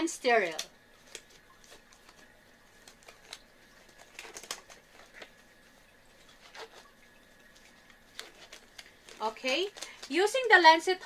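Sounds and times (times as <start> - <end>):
gloves rustling and clicking: 0.3 - 11.0.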